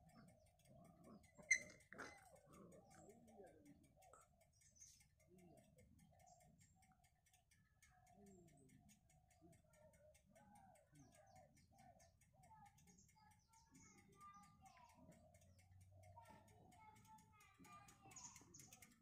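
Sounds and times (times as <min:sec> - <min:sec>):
faint wavering sounds: 0:00.0 - 0:17.1
faint rapid ticking: 0:00.0 - 0:19.0.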